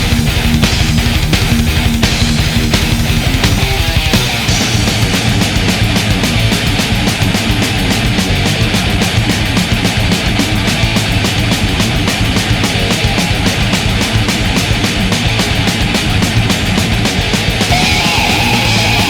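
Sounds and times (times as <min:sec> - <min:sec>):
fast rock music: 0:00.0 - 0:19.0.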